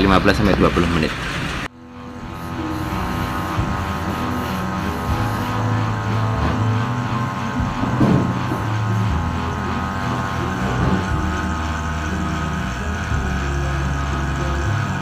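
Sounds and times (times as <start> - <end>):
machine droning hum: 0.0 - 15.0.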